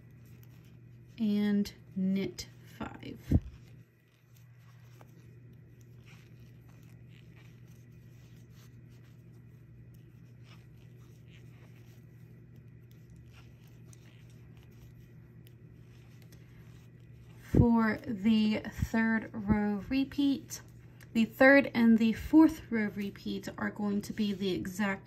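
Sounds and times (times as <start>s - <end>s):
steady low hum: 0.0s - 25.0s
yarn rustling: 0.0s - 25.0s.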